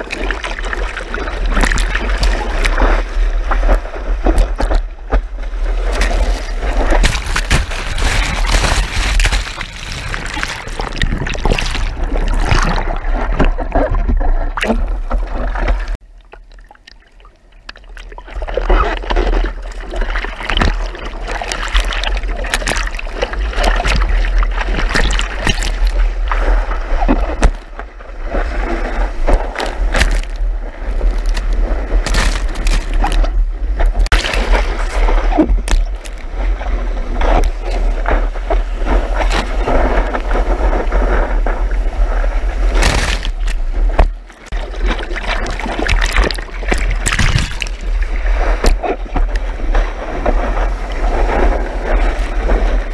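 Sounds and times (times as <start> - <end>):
sea water splashing and rushing: 0.0 - 52.9.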